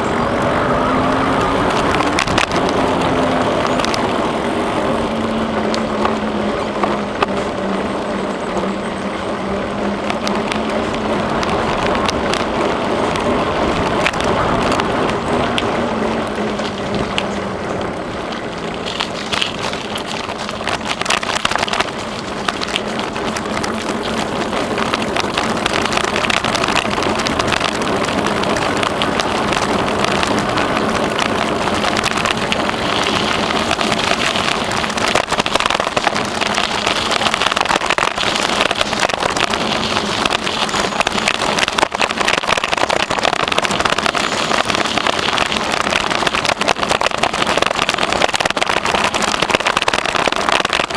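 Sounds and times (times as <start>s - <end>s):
bicycle tyres rolling on trail: 0.0s - 50.9s.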